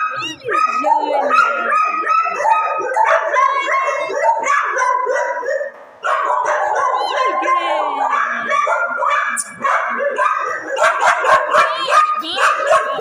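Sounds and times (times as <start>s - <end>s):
dogs barking and howling: 0.0s - 13.0s.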